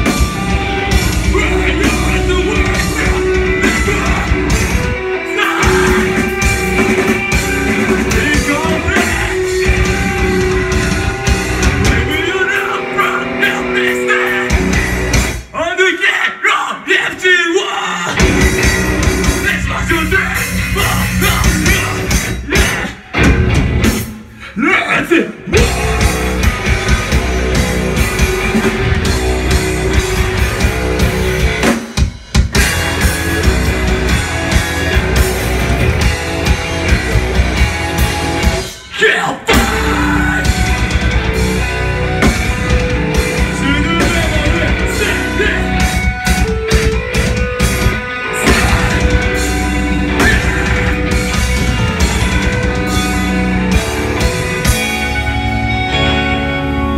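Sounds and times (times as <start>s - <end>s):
metal band playing: 0.0s - 56.9s.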